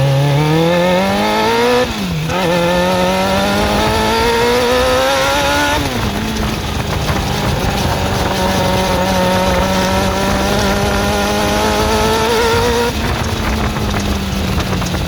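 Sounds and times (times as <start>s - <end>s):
engine ticking: 0.0s - 15.0s
motorcycle engine revving: 0.0s - 15.0s.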